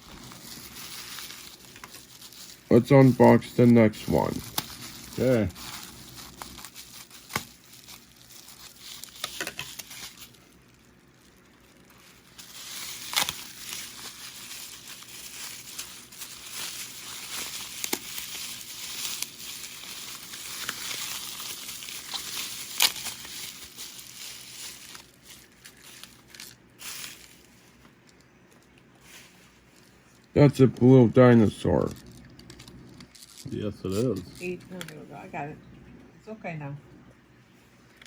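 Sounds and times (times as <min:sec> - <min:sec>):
packaging crinkling and tearing: 0:00.0 - 0:34.9.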